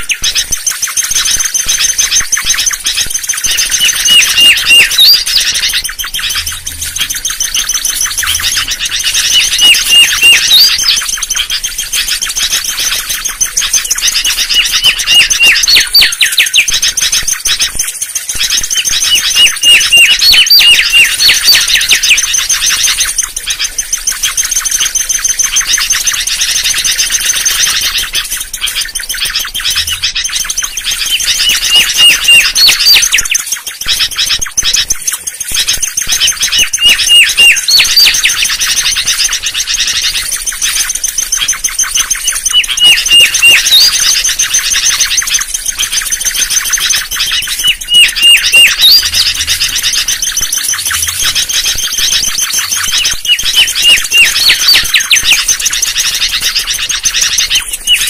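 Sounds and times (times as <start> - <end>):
bird whistling song: 0.0 - 58.0.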